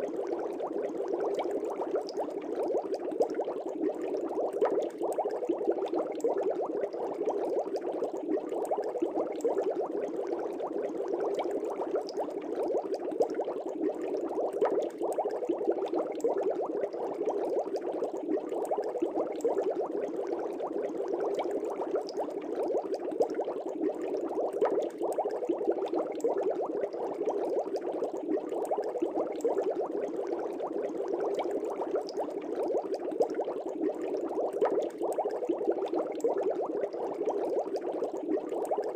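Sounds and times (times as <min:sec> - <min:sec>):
aquarium bubbling: 0:00.0 - 0:38.9.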